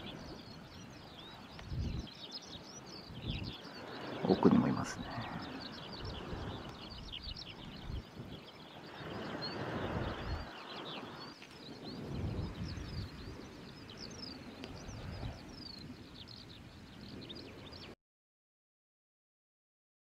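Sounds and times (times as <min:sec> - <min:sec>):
small birds chirping and trilling: 0:00.0 - 0:18.0
wind gusting on microphone: 0:00.0 - 0:18.0.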